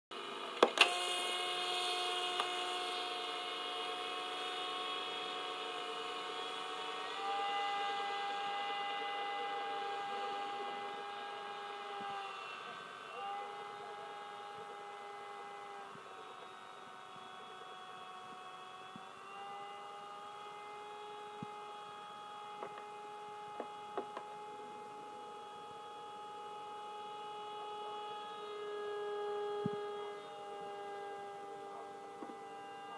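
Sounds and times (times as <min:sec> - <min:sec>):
electric motor high-pitched whine: 0:00.2 - 0:32.9.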